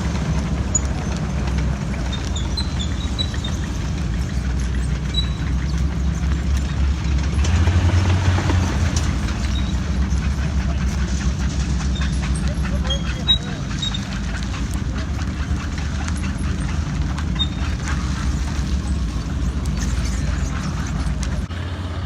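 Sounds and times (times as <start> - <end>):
heavy vehicle engine rumbling: 0.0 - 22.0.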